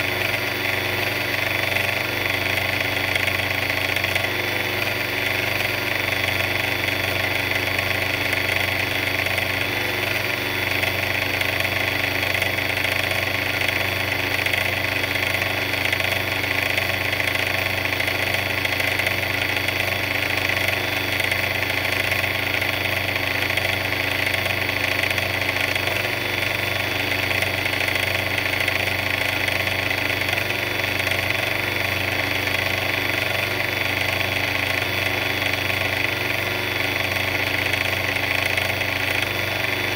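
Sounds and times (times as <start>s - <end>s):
mixer motor droning: 0.0s - 39.9s.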